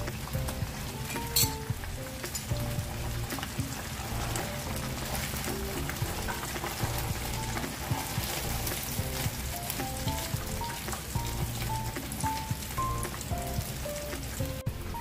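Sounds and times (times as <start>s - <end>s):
oil sizzling: 0.0s - 15.0s
soft background music: 0.0s - 15.0s.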